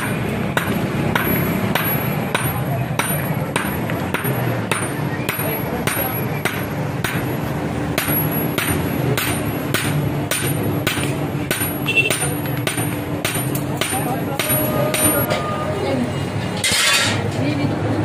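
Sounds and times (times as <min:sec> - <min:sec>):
hammer striking metal on anvil: 0:00.0 - 0:15.5.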